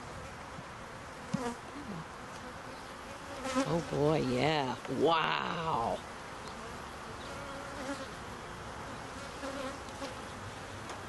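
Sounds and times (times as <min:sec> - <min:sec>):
honeybees buzzing: 0:01.0 - 0:10.9.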